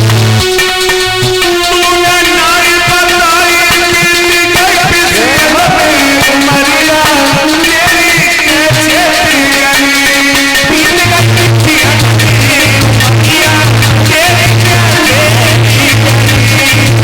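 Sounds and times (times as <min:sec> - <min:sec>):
melody with sliding notes: 0:00.0 - 0:16.8
regular drum beat: 0:00.0 - 0:17.0.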